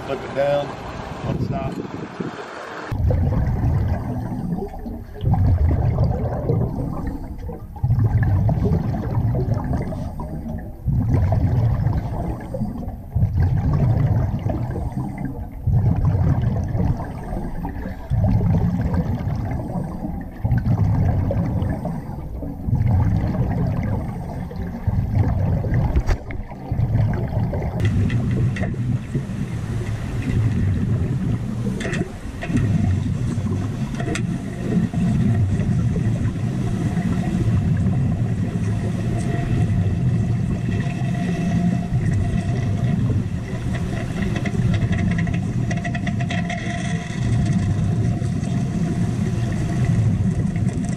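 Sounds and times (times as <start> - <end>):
underwater exhaust bubbles: 0.0 - 50.9.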